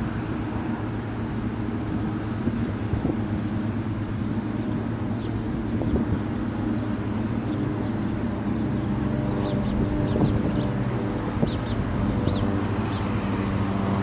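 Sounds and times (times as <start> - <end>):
turboprop plane droning: 0.0 - 14.0.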